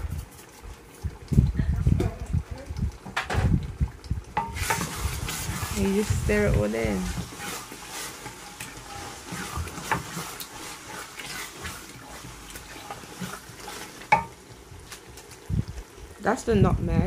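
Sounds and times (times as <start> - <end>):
wet stirring sounds: 0.0 - 17.0.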